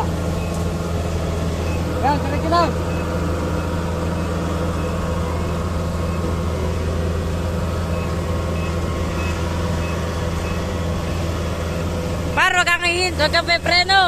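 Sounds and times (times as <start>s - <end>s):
farm vehicle engine droning: 0.0s - 14.0s.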